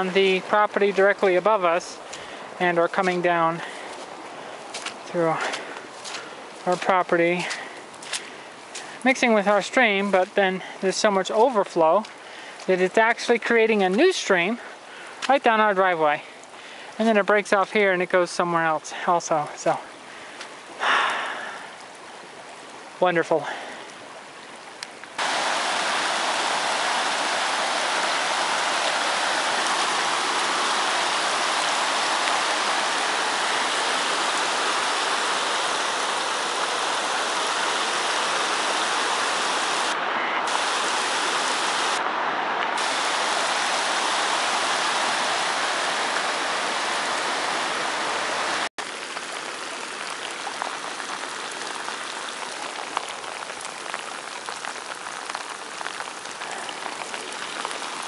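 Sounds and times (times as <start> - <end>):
heavy rain hiss: 0.0 - 58.0
runoff water rushing: 0.0 - 58.0.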